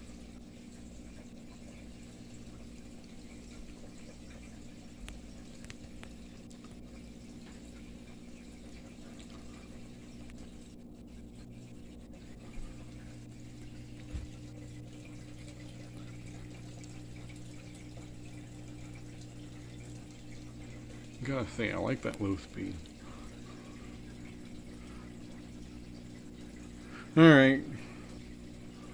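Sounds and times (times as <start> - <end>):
ceiling fan running: 0.0 - 28.9.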